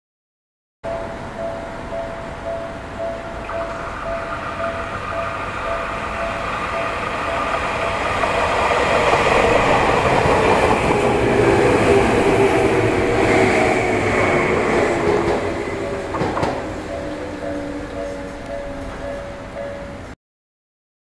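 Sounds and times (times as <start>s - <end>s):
level crossing warning bell: 0.8s - 20.2s
electric train passing: 0.9s - 20.2s.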